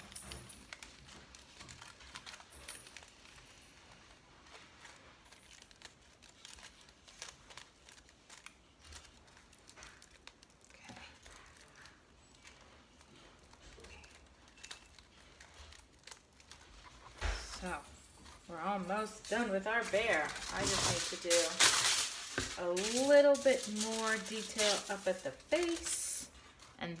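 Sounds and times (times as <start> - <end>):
aluminium foil crinkling: 0.0 - 27.0.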